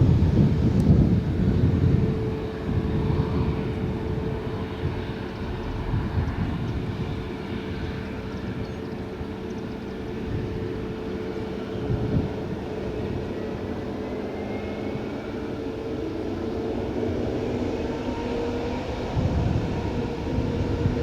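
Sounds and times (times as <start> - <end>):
jet engines rumbling: 0.0 - 21.0
steady engine hum: 0.0 - 21.0.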